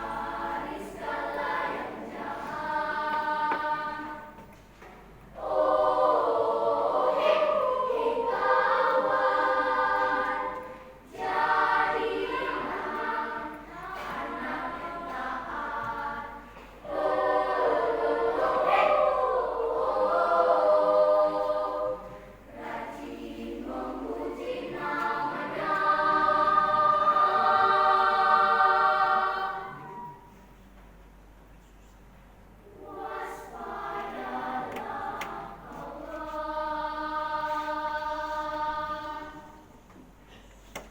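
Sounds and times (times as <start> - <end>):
children's choir singing a cappella: 0.0 - 31.2, 32.5 - 40.9.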